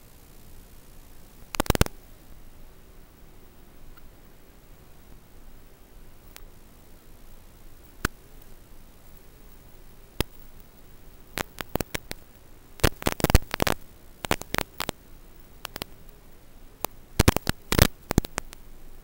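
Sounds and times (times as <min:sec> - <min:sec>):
faint wavering hum: 0:00.0 - 0:19.0
video receiver hiss and static: 0:00.0 - 0:19.0
loud crackling pops: 0:00.2 - 0:02.5, 0:03.8 - 0:19.0.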